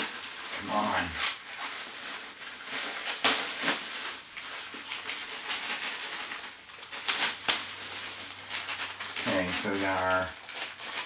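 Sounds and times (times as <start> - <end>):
packaging rustling and clicking: 0.0 - 11.0.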